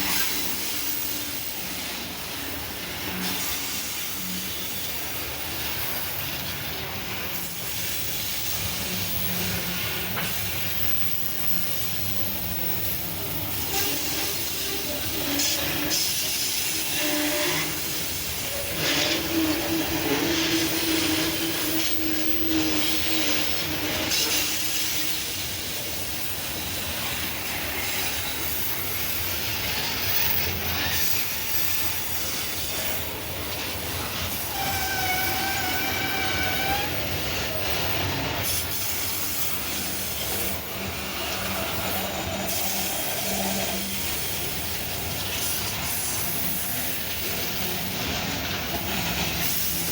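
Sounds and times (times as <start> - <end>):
freight train wheels clacking: 0.0 - 49.9
train wheels squealing on rails: 0.0 - 49.9.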